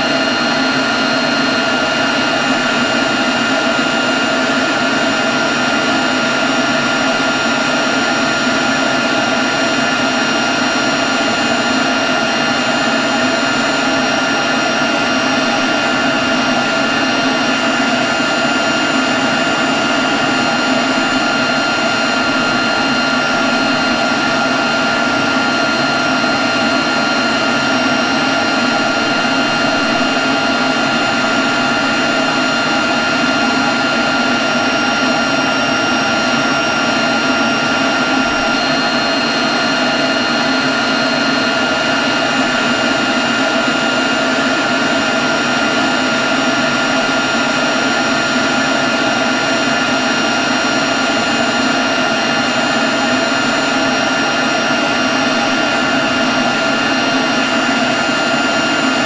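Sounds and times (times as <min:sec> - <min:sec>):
leaf blower whine: 0:00.0 - 0:59.0.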